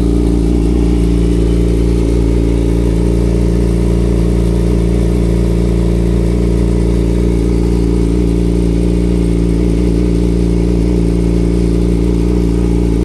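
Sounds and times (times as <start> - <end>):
motorcycle engine running steadily: 0.0 - 13.0.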